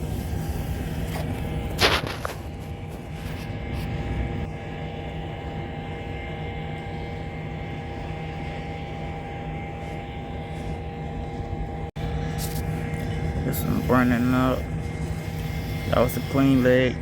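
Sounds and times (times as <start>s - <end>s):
air conditioning hum: 0.0s - 17.0s.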